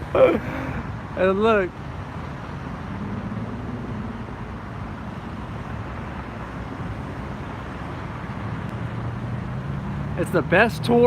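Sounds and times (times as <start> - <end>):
freeway traffic passing: 0.0 - 11.0.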